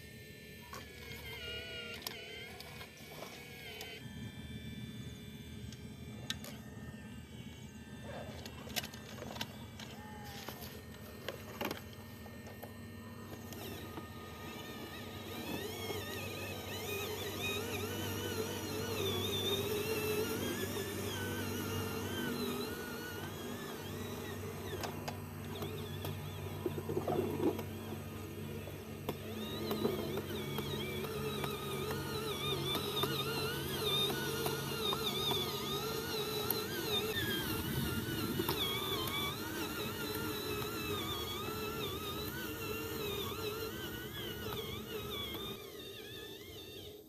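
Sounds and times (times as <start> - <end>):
electric motors and gears whining: 0.0 - 47.0
steady low hum: 0.0 - 47.0.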